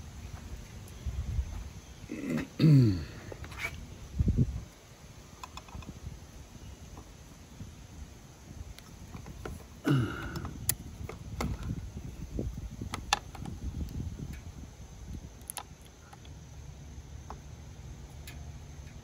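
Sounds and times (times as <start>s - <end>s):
steady low rumble: 3.0s - 19.0s.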